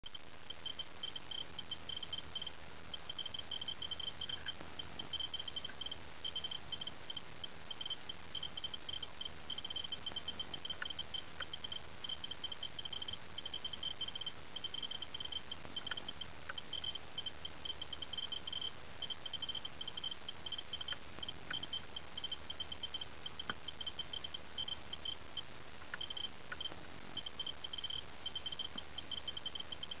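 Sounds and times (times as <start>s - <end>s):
faint steady hiss: 0.0s - 30.0s
geiger counter clicking: 0.5s - 25.2s, 25.8s - 30.0s.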